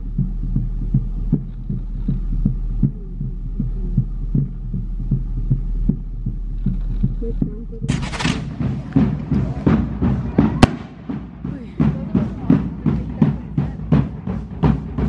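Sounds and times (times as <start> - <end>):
drum beating low thumps: 0.0 - 15.0
steady low rumble: 0.0 - 15.0.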